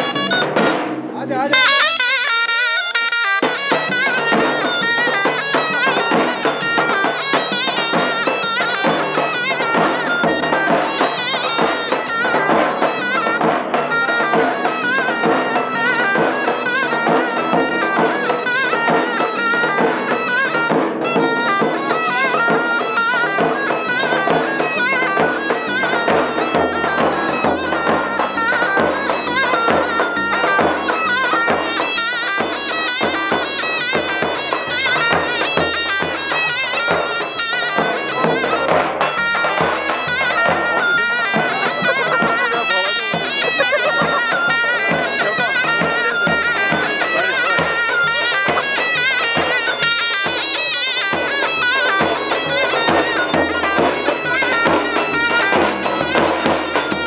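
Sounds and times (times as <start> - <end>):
shrill wind instrument melody: 0.0 - 57.0
steady drum beat: 0.0 - 57.0.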